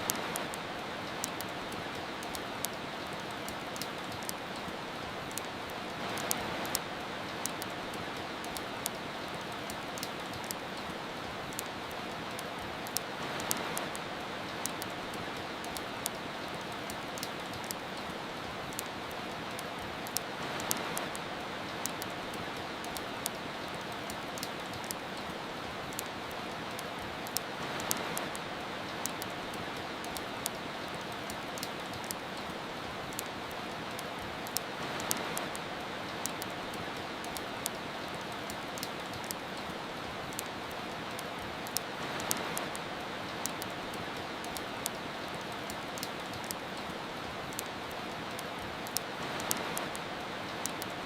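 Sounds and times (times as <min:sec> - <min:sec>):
soft rain hissing: 0:00.0 - 0:51.0
wood fire crackling: 0:00.0 - 0:51.0.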